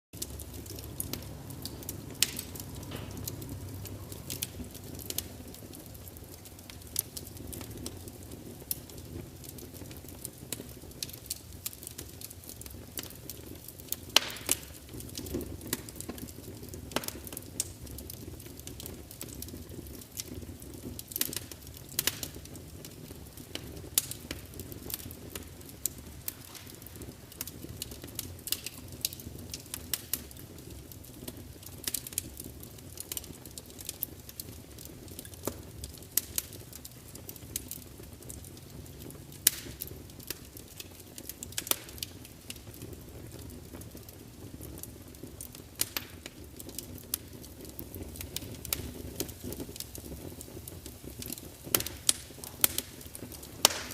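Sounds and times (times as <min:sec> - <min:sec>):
fire crackling and popping: 0:00.1 - 0:53.9.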